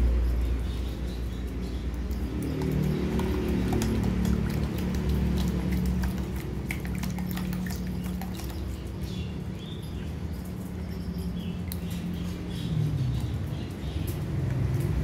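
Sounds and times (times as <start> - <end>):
puppies lapping and eating: 0.0 - 15.0.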